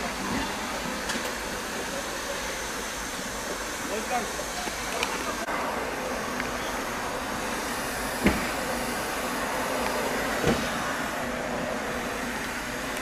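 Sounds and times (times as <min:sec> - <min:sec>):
hose spraying foam: 0:00.0 - 0:13.0.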